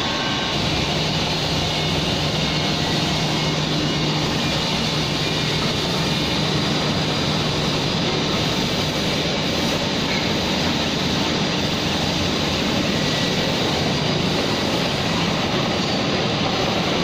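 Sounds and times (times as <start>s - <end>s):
industrial machinery drone: 0.0s - 17.0s.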